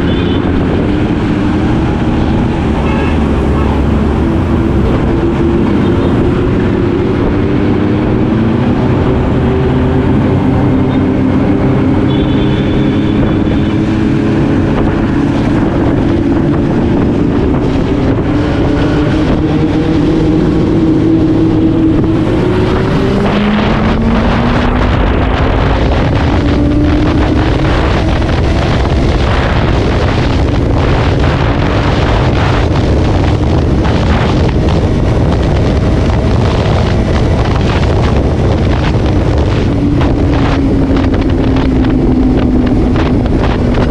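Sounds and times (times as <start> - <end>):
motorcycle engine accelerating: 0.0 - 43.9
wind buffeting microphone: 0.0 - 43.9.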